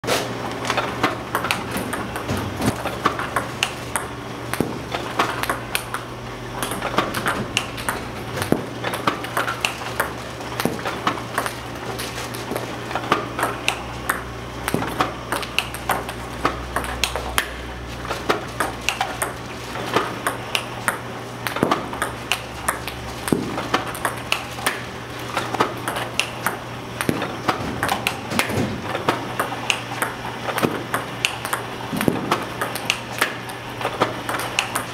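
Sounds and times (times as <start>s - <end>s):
steady low hum: 0.2s - 34.9s
table tennis balls clicking: 0.7s - 34.9s.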